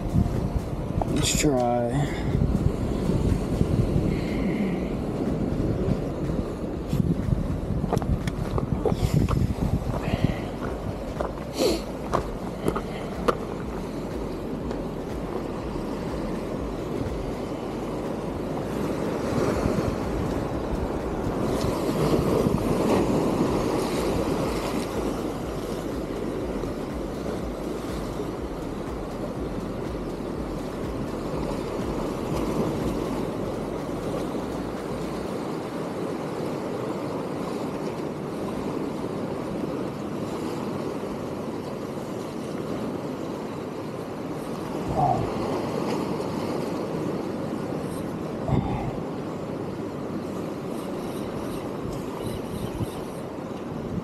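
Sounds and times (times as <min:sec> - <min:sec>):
surf washing against rocks: 0:00.0 - 0:54.0
wind rumbling on microphone: 0:00.0 - 0:54.0.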